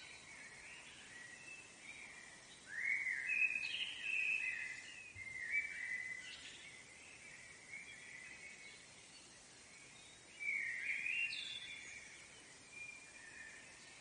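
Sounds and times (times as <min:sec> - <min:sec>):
bird singing whistled notes: 0:00.0 - 0:14.0
faint background hiss: 0:00.0 - 0:14.0.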